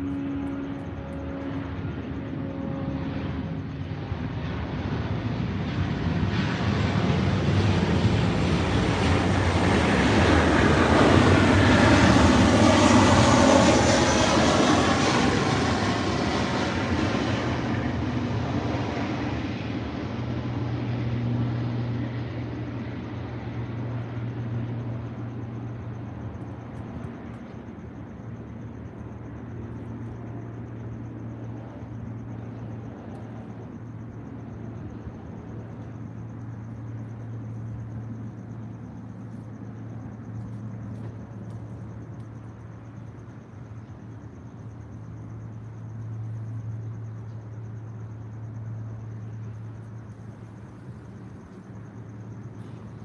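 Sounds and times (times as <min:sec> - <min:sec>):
aircraft engine rumble: 0:00.0 - 0:53.0.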